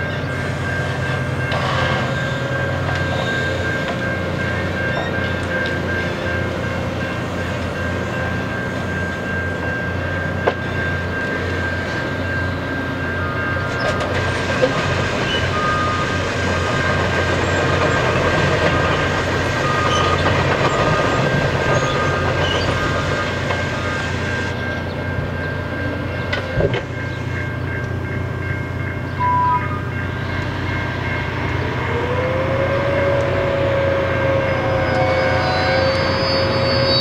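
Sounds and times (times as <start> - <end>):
wheels rumbling on track: 0.0 - 37.0.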